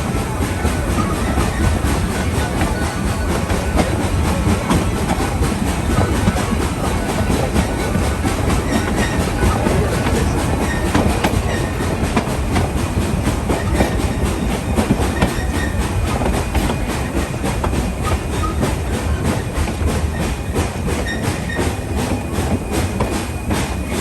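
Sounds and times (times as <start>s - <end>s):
train coach rumbling: 0.0s - 24.0s
wheels clacking over rail joints: 0.0s - 24.0s.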